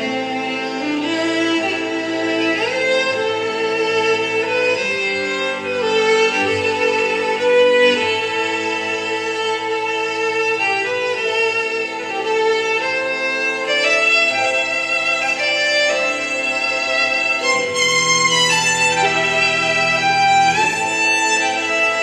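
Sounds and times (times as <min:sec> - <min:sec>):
lower accompaniment: 0:00.0 - 0:22.0
violin melody: 0:00.0 - 0:22.0.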